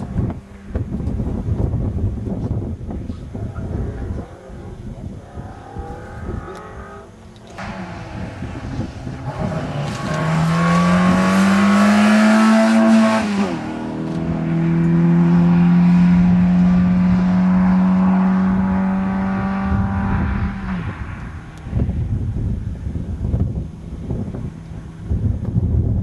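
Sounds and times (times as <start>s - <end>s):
car engine accelerating hard: 3.2s - 25.6s.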